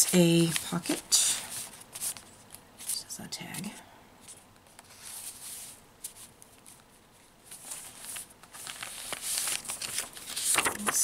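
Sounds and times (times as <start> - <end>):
paper pages rustling and sliding: 0.0 - 11.0.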